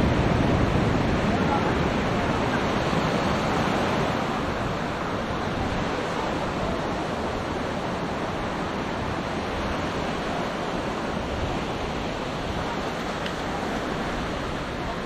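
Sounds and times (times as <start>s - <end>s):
waves washing up a beach: 0.0s - 15.0s
wind on microphone: 0.0s - 15.0s.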